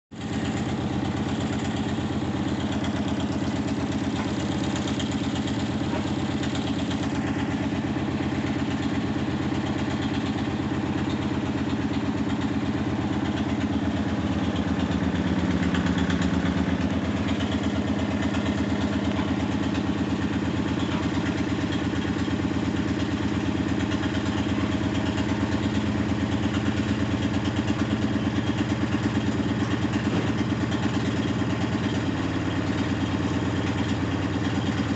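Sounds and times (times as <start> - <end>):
washing machine spinning: 0.6 - 34.9.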